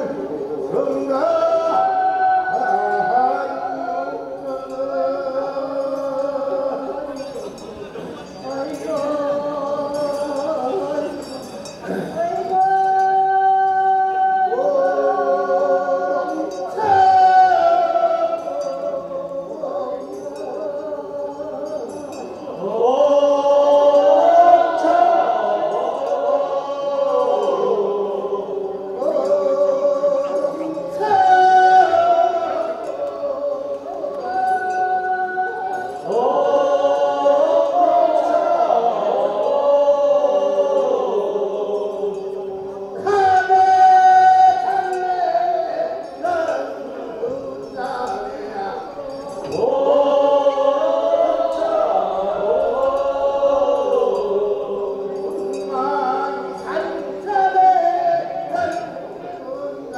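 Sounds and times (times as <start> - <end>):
chorus singing refrain: 0.0 - 59.9.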